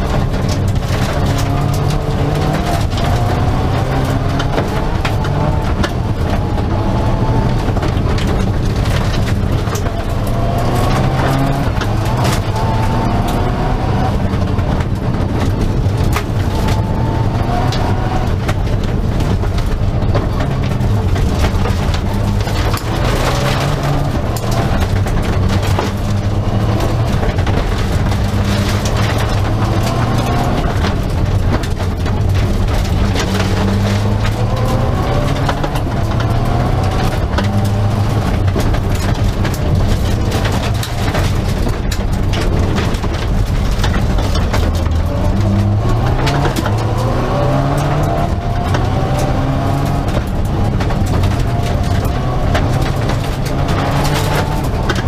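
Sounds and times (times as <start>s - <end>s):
car engine revving at full throttle: 0.0s - 55.0s
gravel rattling against underside: 0.0s - 55.0s.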